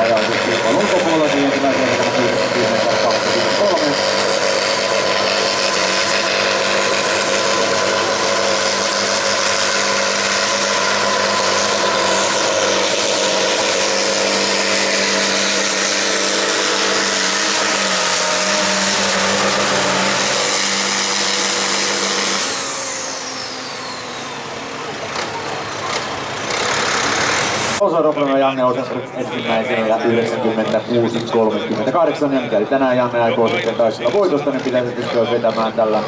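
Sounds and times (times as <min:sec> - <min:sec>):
tractor diesel engine at full throttle: 0:00.0 - 0:36.0.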